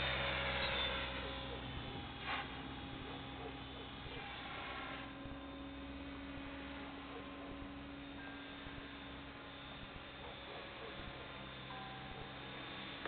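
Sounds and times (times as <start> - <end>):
distant rc helicopter hum: 0.0 - 13.0.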